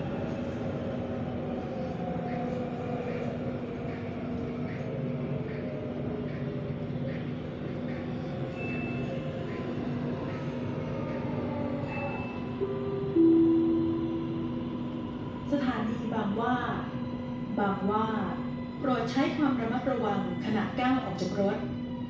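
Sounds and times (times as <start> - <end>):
metro train hum and rumble: 0.0 - 22.0.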